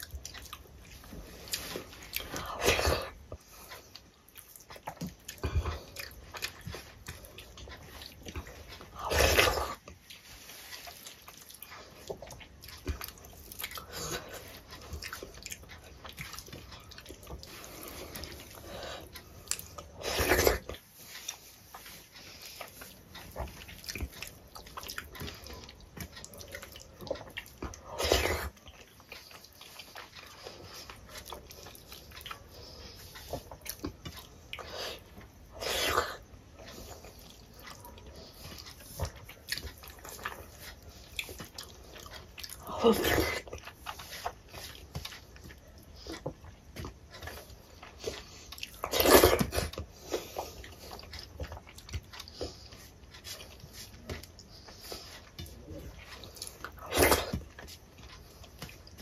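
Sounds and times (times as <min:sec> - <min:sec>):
wet chewing and lip smacking: 0:00.0 - 0:59.0.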